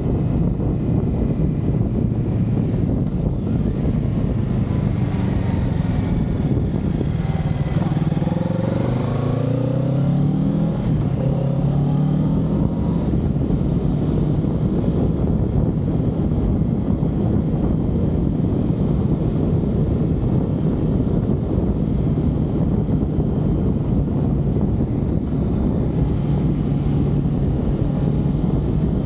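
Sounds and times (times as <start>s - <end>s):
wind noise on microphone: 0.0s - 29.0s.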